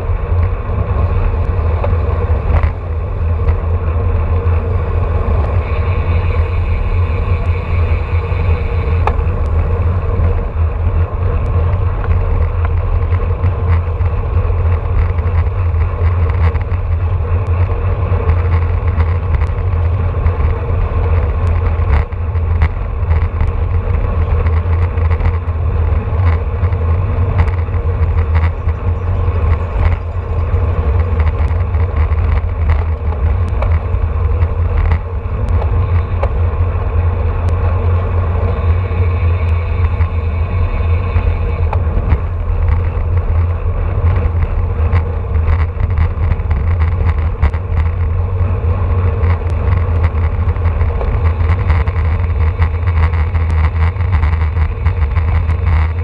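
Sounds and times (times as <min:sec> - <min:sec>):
bike clicks and rattles: 0:00.0 - 0:56.0
tyre and road noise: 0:00.0 - 0:56.0
wind rumbling over microphone: 0:00.0 - 0:56.0.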